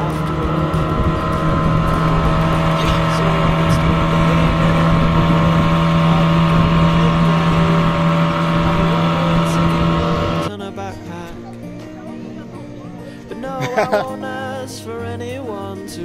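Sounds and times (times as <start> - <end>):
outboard engine droning: 0.0 - 14.7.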